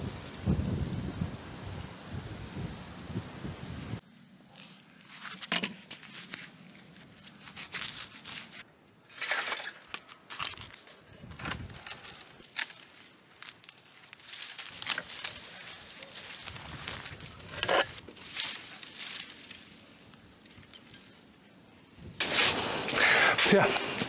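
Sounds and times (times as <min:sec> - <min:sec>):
twigs rustling and crackling: 0:04.5 - 0:24.0.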